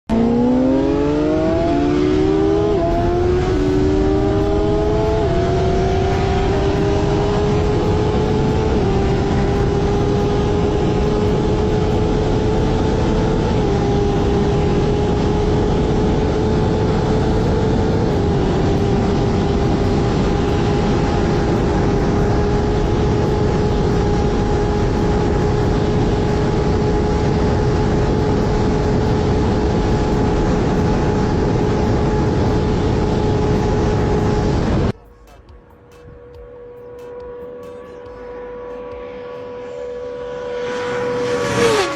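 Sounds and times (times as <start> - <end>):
motorcycle engine accelerating: 0.1 - 41.9
rushing wind noise: 0.8 - 35.0.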